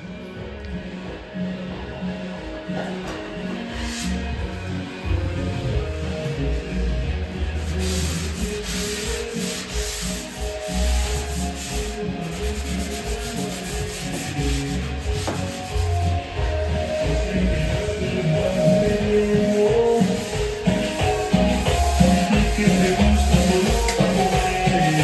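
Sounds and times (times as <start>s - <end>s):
drywall being sanded: 2.8s - 25.0s.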